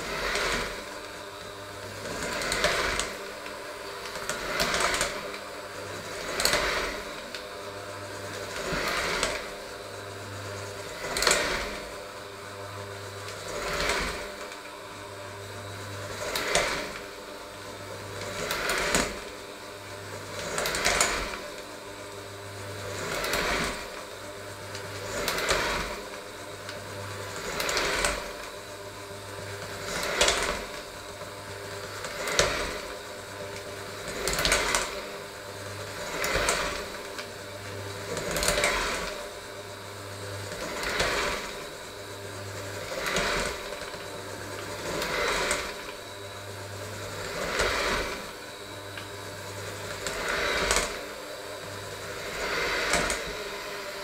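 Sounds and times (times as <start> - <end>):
electric hand mixer running: 0.0 - 54.0.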